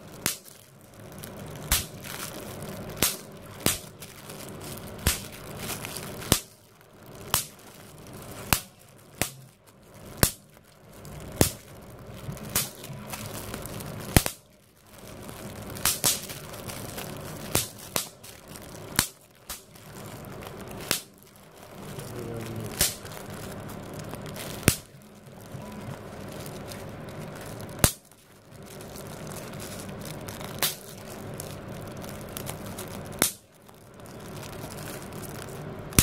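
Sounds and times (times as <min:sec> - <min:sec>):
bubble wrap popping: 0:00.0 - 0:36.0
plastic crinkling: 0:00.0 - 0:36.0.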